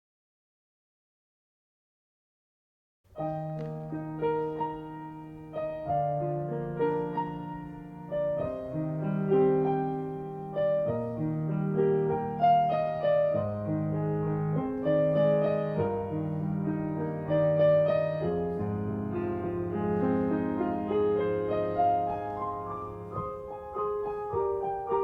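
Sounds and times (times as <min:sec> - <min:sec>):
solo piano broken chords: 0:03.1 - 0:25.0.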